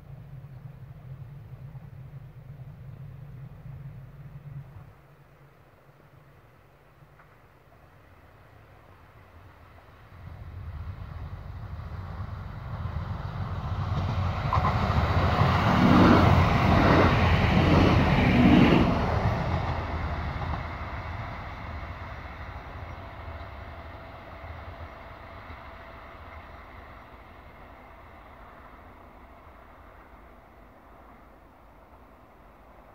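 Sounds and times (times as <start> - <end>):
diesel train engine rumble: 0.0 - 32.9
train wheel noise: 0.0 - 32.9.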